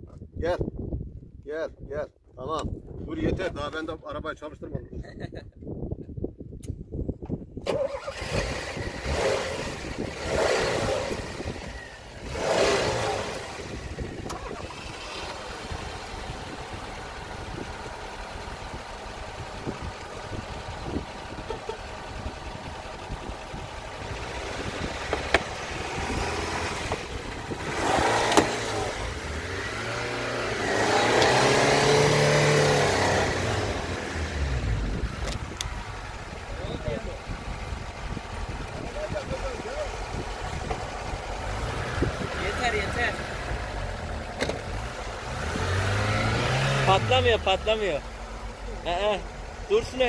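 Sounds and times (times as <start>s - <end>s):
car engines revving: 7.9s - 50.0s.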